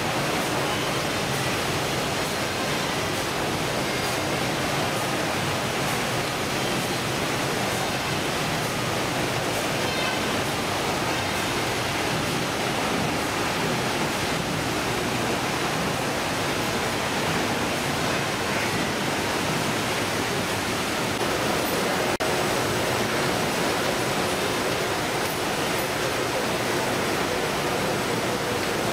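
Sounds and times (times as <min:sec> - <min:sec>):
processing machinery and conveyors: 0:00.0 - 0:28.9.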